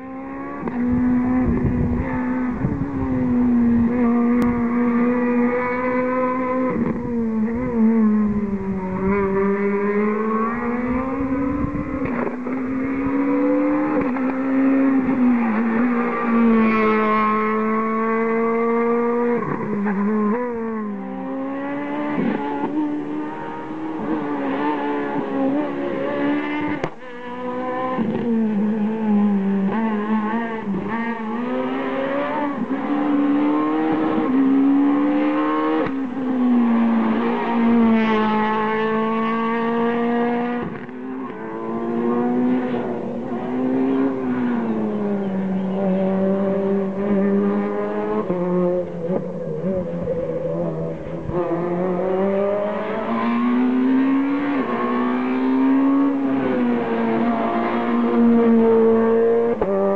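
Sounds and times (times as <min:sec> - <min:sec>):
rally car engines revving high: 0:00.0 - 0:59.9.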